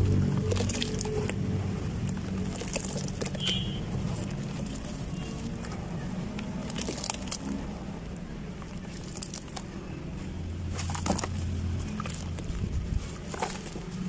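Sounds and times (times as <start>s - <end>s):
dried cement crumbling: 0.0s - 14.0s
low steady hum: 0.0s - 14.0s.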